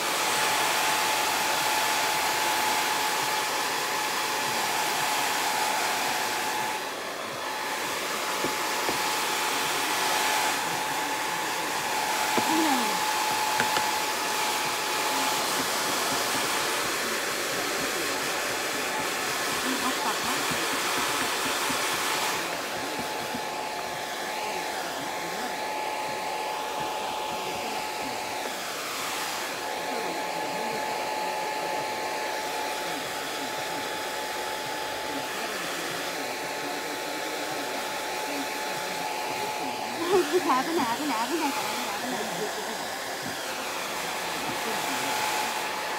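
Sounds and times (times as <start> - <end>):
hair dryer blowing: 0.0 - 45.9.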